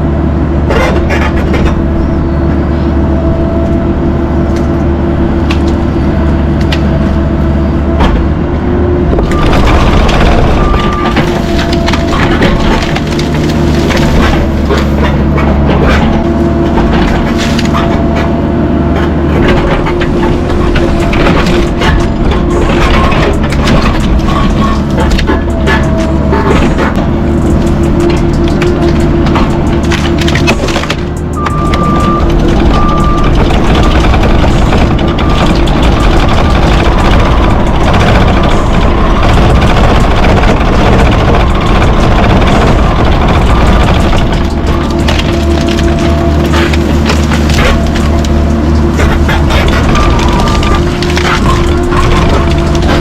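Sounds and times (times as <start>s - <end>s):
diesel engine running under load: 0.0s - 53.0s
wood cracking and snapping: 9.2s - 18.4s, 19.0s - 53.0s.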